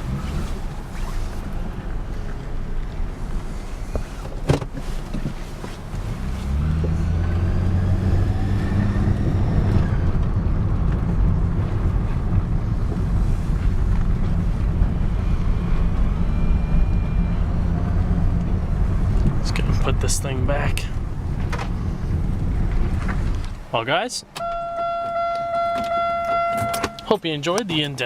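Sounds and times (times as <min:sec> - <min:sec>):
car engine driving: 0:00.0 - 0:28.0
road noise: 0:00.0 - 0:28.0.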